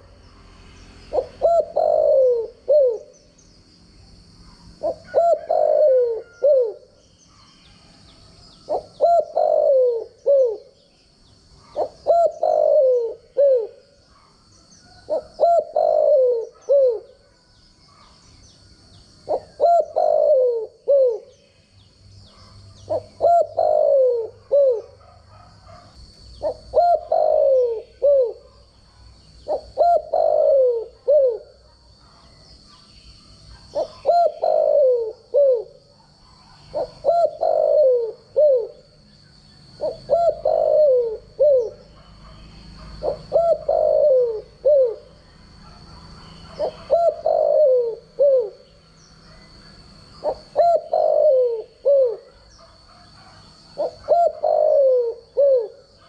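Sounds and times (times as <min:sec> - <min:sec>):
dove cooing: 0:01.1 - 0:03.3, 0:04.6 - 0:07.0, 0:07.7 - 0:10.8, 0:11.5 - 0:18.2, 0:19.2 - 0:21.4, 0:22.2 - 0:56.0.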